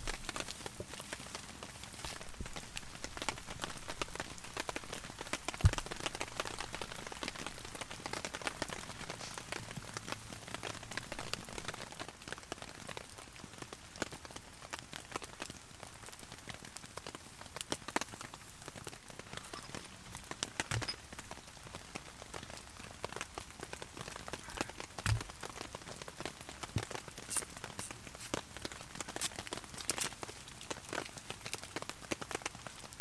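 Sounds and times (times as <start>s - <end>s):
heavy rain on a tarp: 0.0s - 33.0s.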